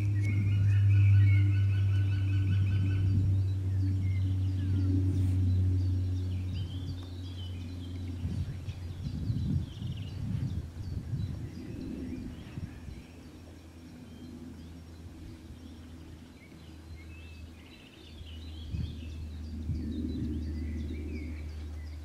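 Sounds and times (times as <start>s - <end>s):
small birds chirping: 0.0s - 22.0s
wind rumbling on microphone: 0.0s - 22.0s.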